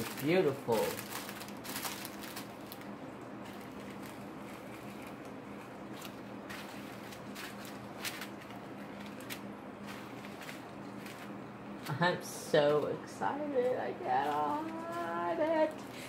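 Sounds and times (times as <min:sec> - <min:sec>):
plastic bags crinkling: 0:00.0 - 0:16.0
steady low hum: 0:00.0 - 0:16.0.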